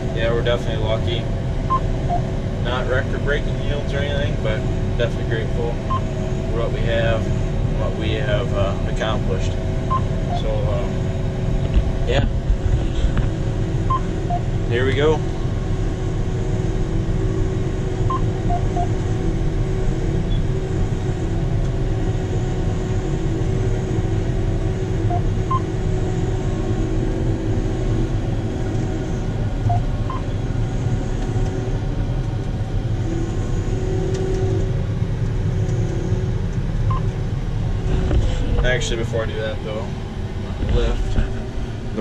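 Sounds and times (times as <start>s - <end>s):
combine harvester engine drone: 0.0s - 42.0s.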